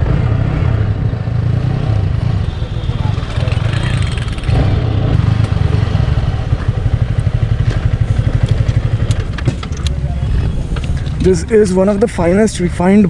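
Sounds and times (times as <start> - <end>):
motorcycle engine idling: 2.4 - 13.0.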